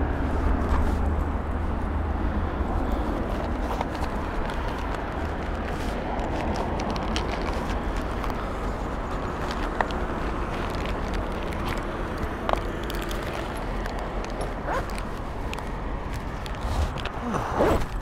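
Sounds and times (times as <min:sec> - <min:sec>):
distant traffic: 0:00.0 - 0:18.0.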